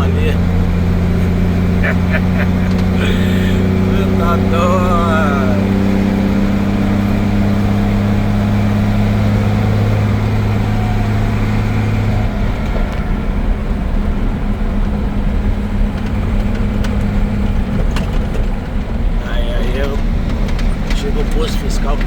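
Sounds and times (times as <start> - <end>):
road and tyre rumble: 0.0 - 22.0
truck engine hum: 0.0 - 22.0.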